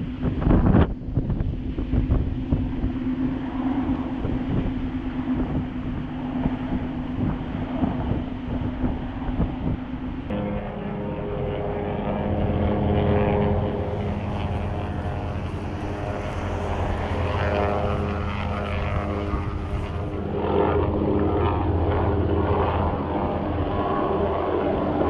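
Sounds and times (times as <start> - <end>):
engine drone: 1.4 - 25.0.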